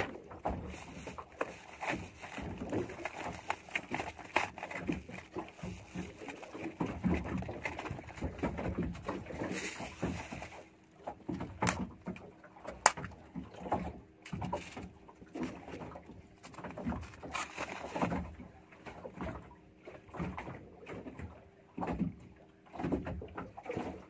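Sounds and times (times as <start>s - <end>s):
water slapping against boat hull: 0.0s - 24.0s.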